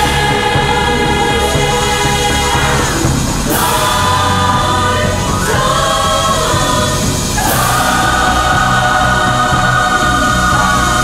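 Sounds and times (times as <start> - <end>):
choir singing with accompaniment: 0.0 - 11.0
steady bass: 0.0 - 11.0.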